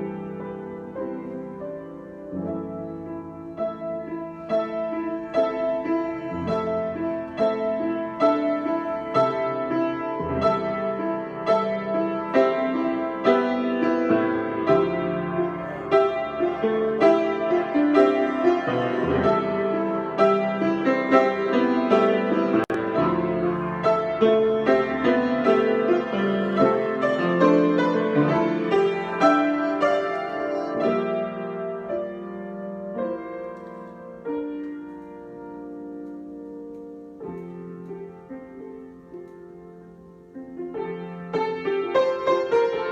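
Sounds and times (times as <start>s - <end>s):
solo piano improvisation: 0.0s - 42.9s.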